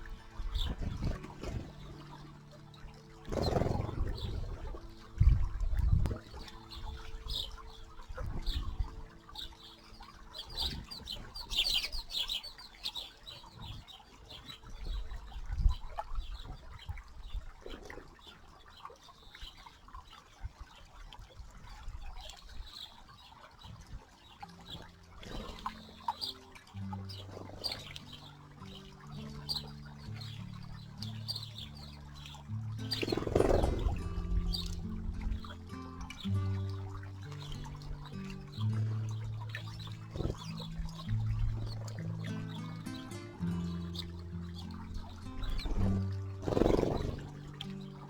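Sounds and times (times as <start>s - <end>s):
birds splashing in water: 0.0s - 48.0s
small birds chirping: 0.0s - 48.0s
wing flutters in water: 0.0s - 48.0s.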